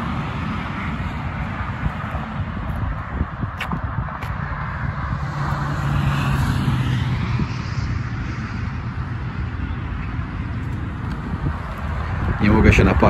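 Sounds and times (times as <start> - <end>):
passing vehicle engine hum: 0.0 - 13.0.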